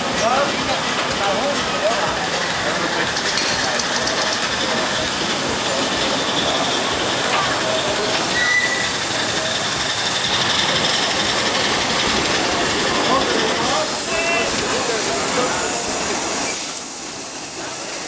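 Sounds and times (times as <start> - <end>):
steam locomotives hissing: 0.0 - 18.0.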